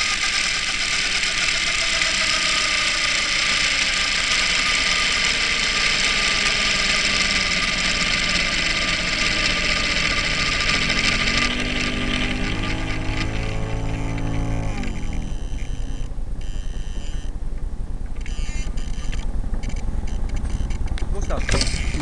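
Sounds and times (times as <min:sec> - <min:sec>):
model helicopter engine idling: 0:00.0 - 0:17.1, 0:18.3 - 0:22.0
low hum rising in pitch: 0:00.0 - 0:22.0.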